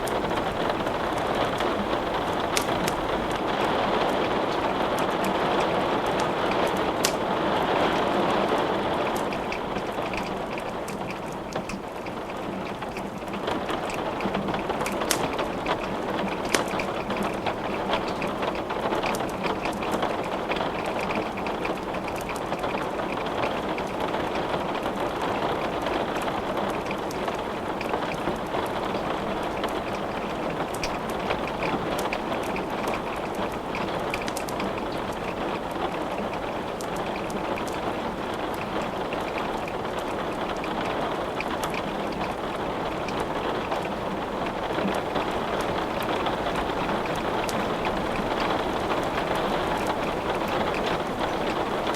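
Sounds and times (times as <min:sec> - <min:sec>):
wood fire crackling: 0:00.0 - 0:24.0, 0:25.8 - 0:51.9
steady rain falling: 0:00.0 - 0:51.9.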